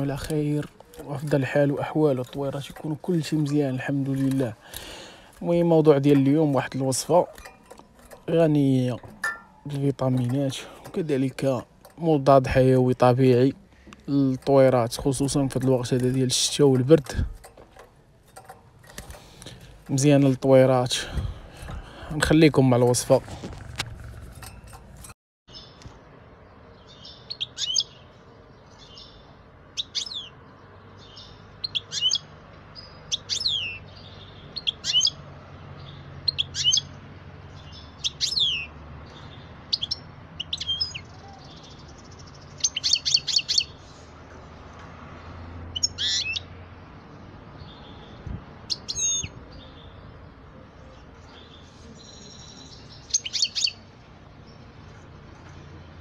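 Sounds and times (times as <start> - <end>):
songbird chirping: 0.0 - 24.8, 25.5 - 56.0.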